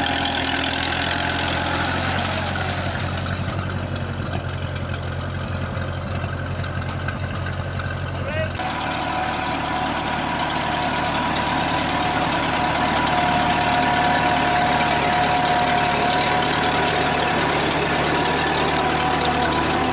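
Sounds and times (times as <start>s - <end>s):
tractor engine running under load: 0.0s - 19.9s.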